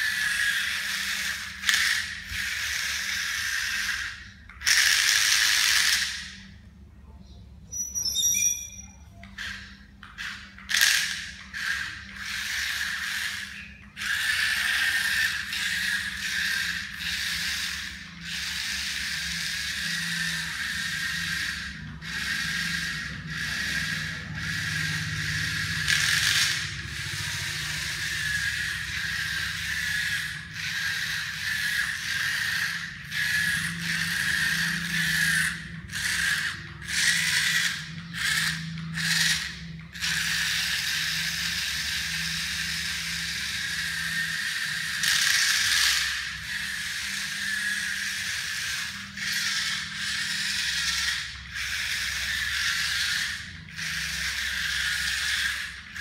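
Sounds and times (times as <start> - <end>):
small gear motors whining: 0.0 - 6.8, 7.6 - 56.0.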